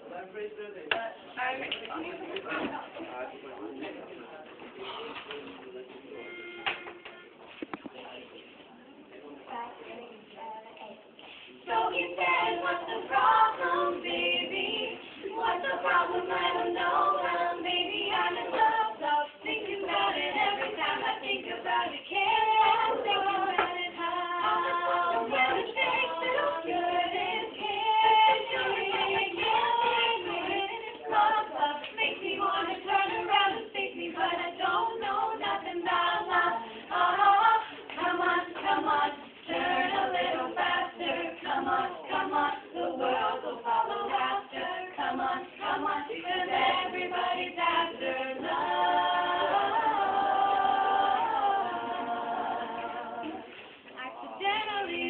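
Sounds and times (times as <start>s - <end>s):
girls singing a cappella: 9.7s - 55.0s.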